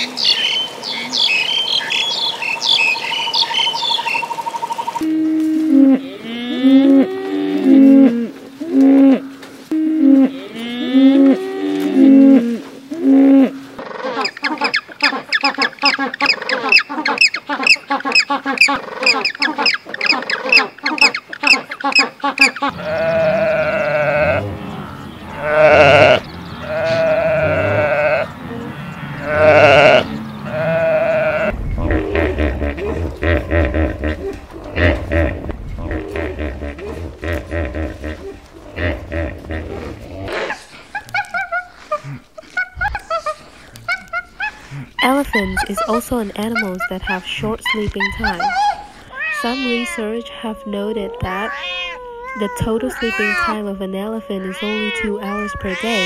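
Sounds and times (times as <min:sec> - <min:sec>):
slow animal calls: 0:00.9 - 0:56.0
penguins calling: 0:05.0 - 0:56.0
calf bawling: 0:10.2 - 0:56.0.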